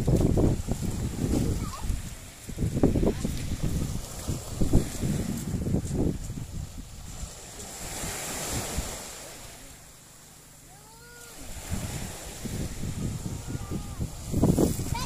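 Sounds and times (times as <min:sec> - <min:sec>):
wind on microphone: 0:00.0 - 0:09.3, 0:11.2 - 0:15.0
surf on pebbly shore: 0:00.0 - 0:15.0.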